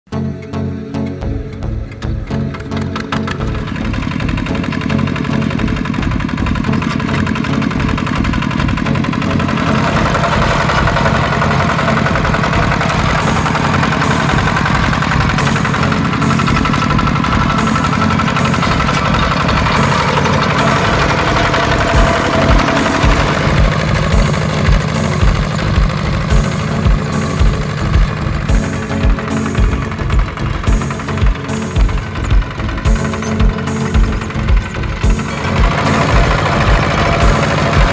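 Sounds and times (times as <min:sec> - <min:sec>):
diesel tractor engine chugging: 0:00.1 - 0:37.9
higher steady tone: 0:00.1 - 0:37.9.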